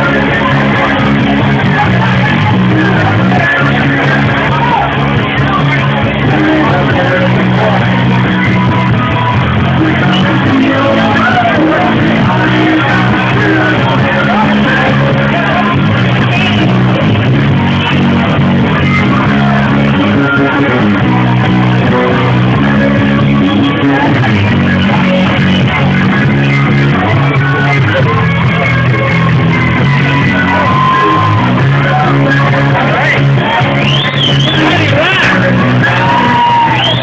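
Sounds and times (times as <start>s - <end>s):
electric guitar: 0.0s - 37.0s
rock band playing live: 0.0s - 37.0s.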